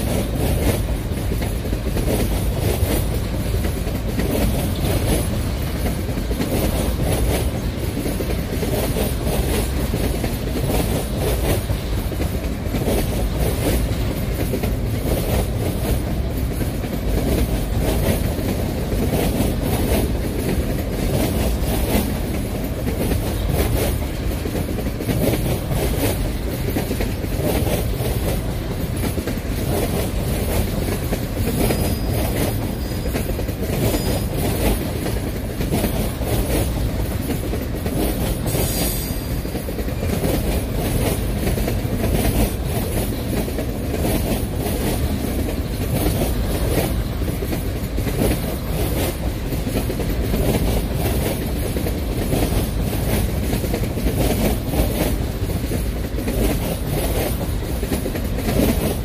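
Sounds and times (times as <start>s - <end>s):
low rumble of rolling train: 0.0s - 59.0s
train wheels clattering over rail joints: 0.0s - 59.0s.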